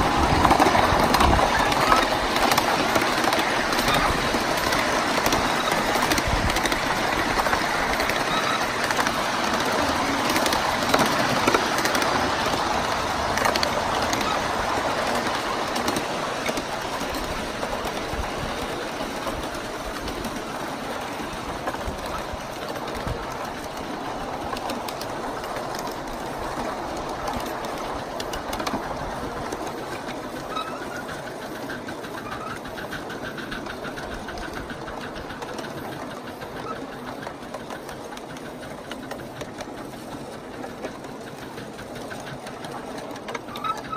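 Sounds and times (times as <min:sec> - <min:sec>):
train cars rumbling: 0:00.0 - 0:43.9
wheels clattering on rails: 0:00.0 - 0:43.9.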